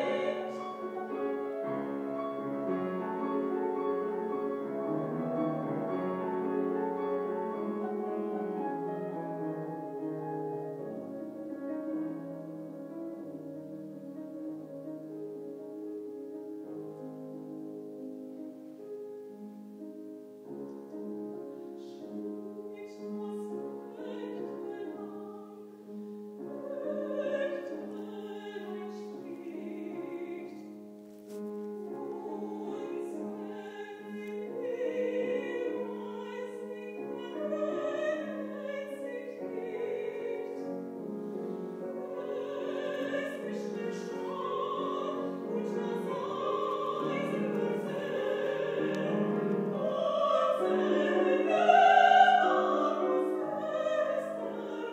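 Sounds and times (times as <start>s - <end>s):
woman singing opera: 0.0s - 11.5s, 21.6s - 54.9s
piano: 0.0s - 54.9s.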